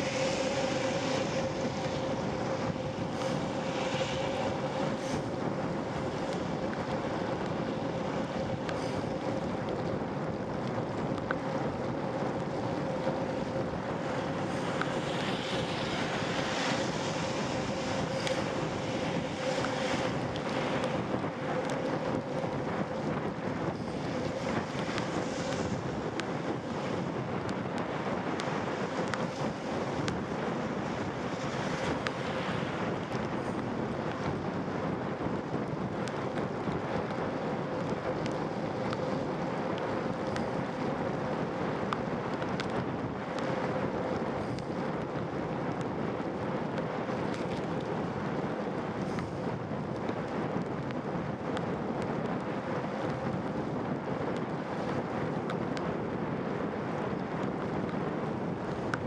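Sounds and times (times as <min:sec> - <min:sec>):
faint constant hum: 0:00.0 - 0:59.0
wind buffeting microphone: 0:00.0 - 0:59.0.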